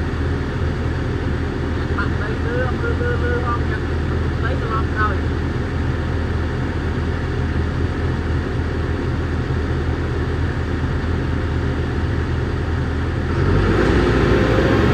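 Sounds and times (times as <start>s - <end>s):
diesel engine droning: 0.0s - 14.9s.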